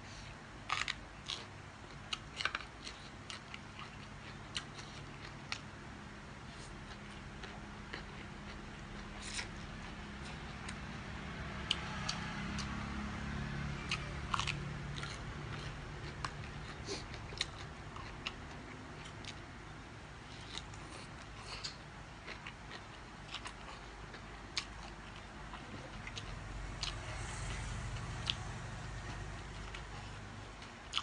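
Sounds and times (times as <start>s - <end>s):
person chewing food: 0.1s - 5.8s, 6.4s - 19.5s, 20.2s - 31.0s.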